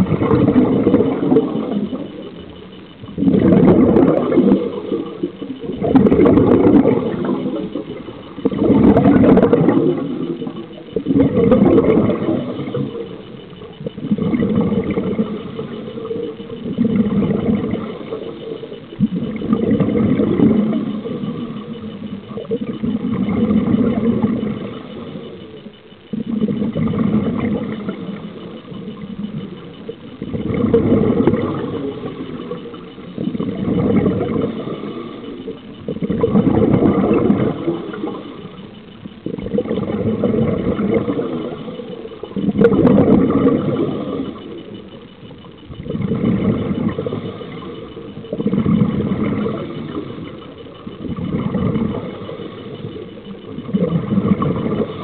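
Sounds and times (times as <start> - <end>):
exhaled bubbles underwater: 0.0 - 55.0.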